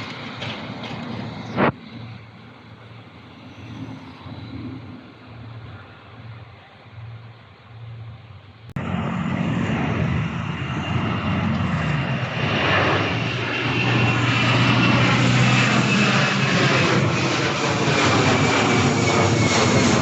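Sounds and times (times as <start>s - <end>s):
airliner engines roaring: 0.0s - 20.0s.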